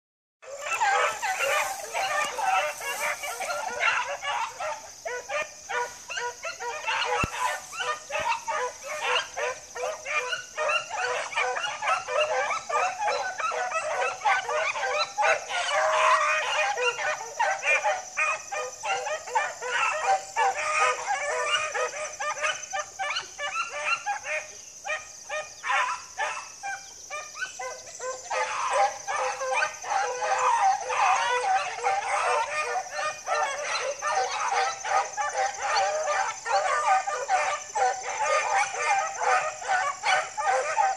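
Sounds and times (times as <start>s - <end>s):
hounds baying: 0.4s - 40.9s.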